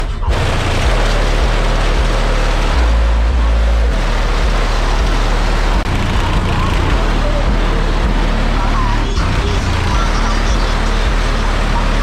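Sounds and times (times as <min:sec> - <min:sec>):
bass-boosted music from subwoofers: 0:00.0 - 0:12.0
harsh noisy wash: 0:00.0 - 0:12.0.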